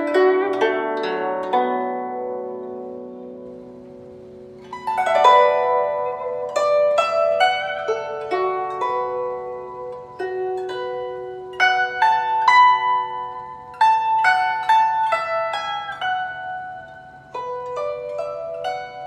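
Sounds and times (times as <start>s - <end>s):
plucked string music: 0.0s - 19.0s.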